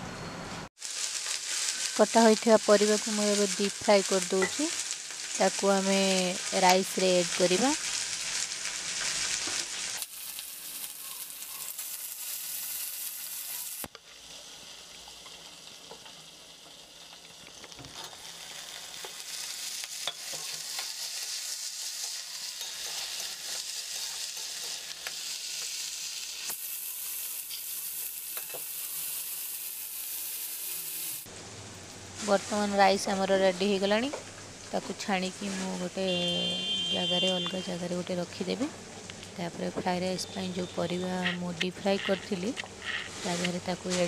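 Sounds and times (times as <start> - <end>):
vegetables sizzling in oil: 0.8 - 31.4, 32.2 - 44.0.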